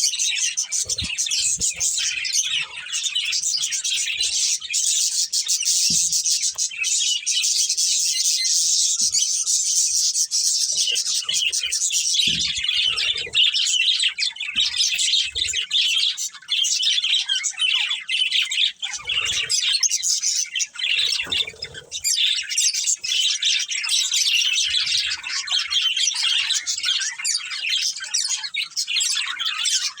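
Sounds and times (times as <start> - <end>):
budgerigars chattering and chirping: 0.0 - 30.0.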